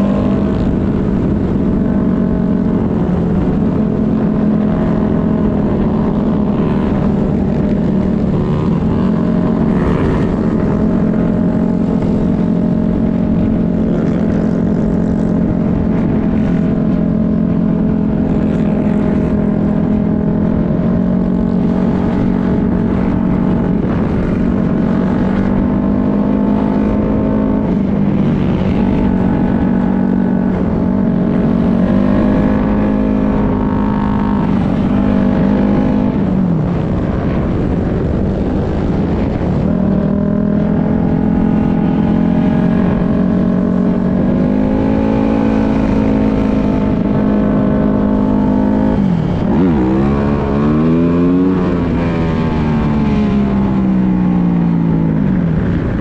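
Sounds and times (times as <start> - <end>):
dirt bike engine running: 0.0 - 56.0
wind rumbling on microphone: 0.0 - 56.0.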